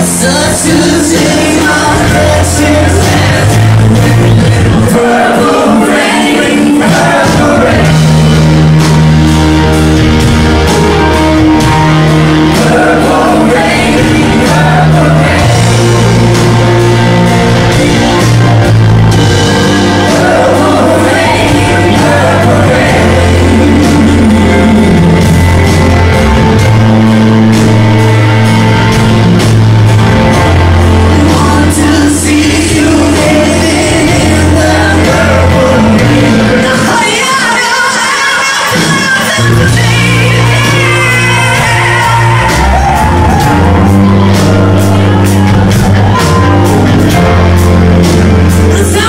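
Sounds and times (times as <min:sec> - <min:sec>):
bass guitar: 0:00.0 - 0:37.4, 0:38.7 - 0:49.0
group vocals singing: 0:00.0 - 0:47.4
electric guitar: 0:00.0 - 0:49.0
keyboards: 0:00.0 - 0:49.0.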